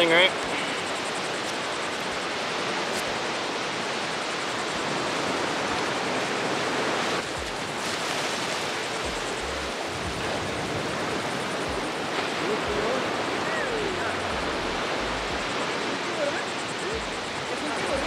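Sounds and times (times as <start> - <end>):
ocean surf washing onto beach: 0.0 - 18.0.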